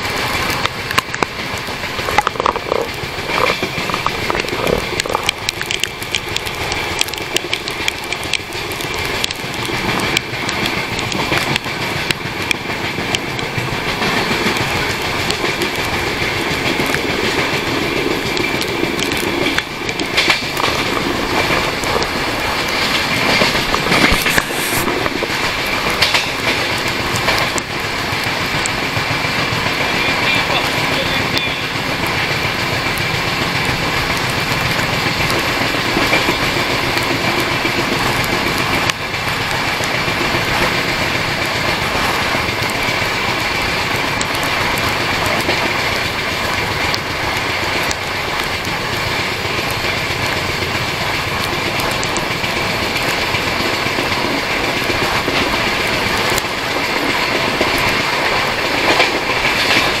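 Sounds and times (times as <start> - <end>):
train wheels rushing on rails: 0.0 - 60.0.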